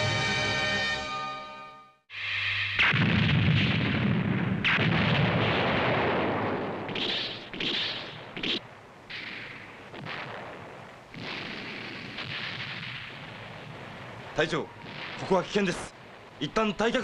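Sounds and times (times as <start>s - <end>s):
explosions: 2.8s - 17.0s.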